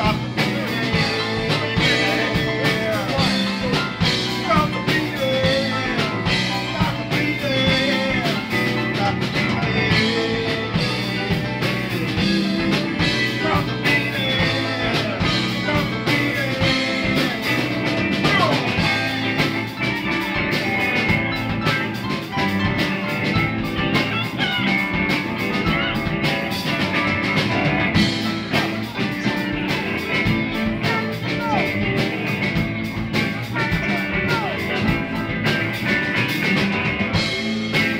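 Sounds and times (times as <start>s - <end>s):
live rock band: 0.0s - 37.9s.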